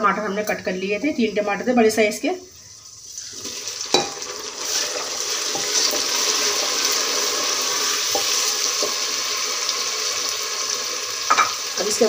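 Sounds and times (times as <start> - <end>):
tomatoes sizzling in hot oil: 0.8 - 12.0.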